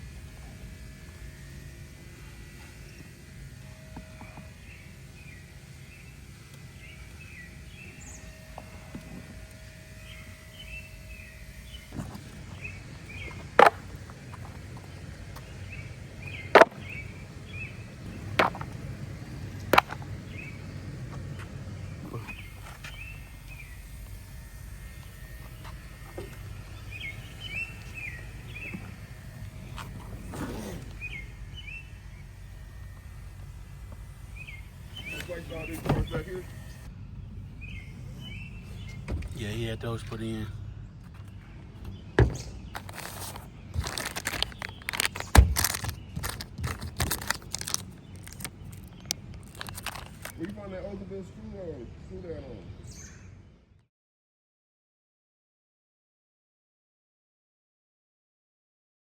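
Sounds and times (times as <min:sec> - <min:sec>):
small birds chirping: 0:04.4 - 0:53.5.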